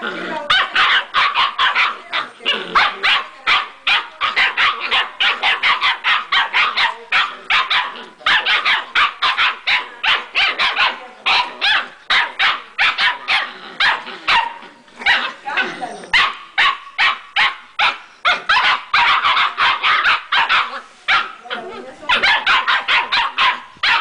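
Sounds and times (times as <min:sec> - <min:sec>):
puppies yapping: 0:00.4 - 0:24.0.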